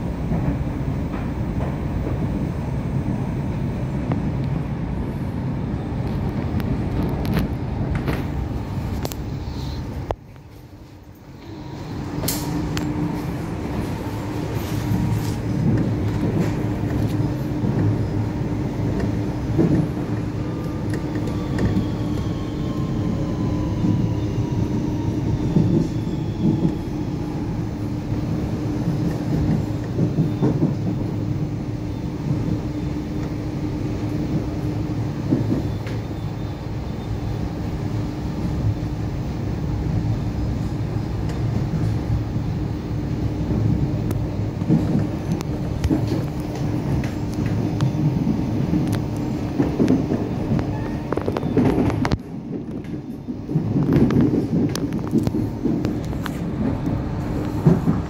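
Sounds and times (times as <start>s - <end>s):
train running rumble and hum: 0.0s - 58.0s.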